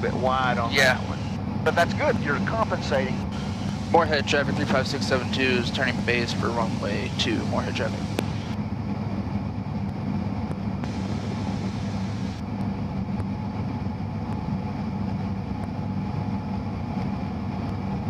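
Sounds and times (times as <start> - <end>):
airplane engine and propeller droning: 0.0 - 18.0.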